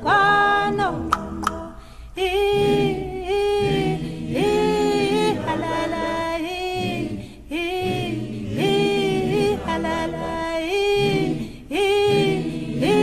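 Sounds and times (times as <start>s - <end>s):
group singing a cappella: 0.0s - 13.0s.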